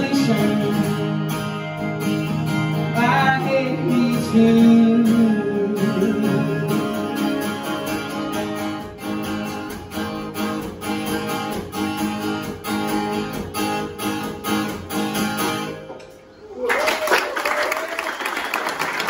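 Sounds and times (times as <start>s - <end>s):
guitars strumming chords: 0.0s - 16.3s.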